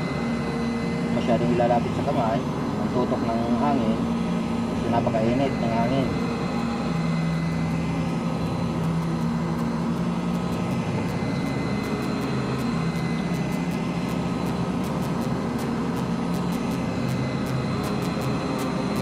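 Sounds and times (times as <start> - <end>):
hot air gun fan humming: 0.0 - 19.0.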